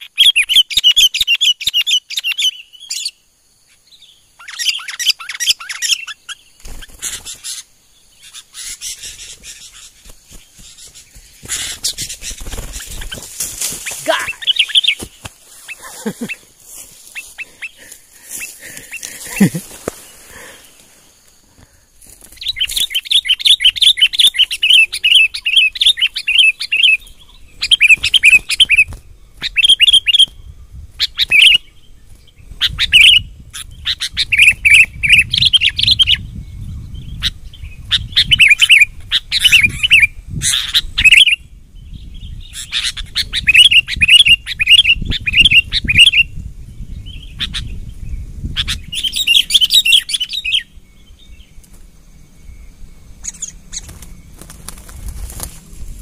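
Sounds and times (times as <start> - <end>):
birds chattering calls: 0.0 - 56.0.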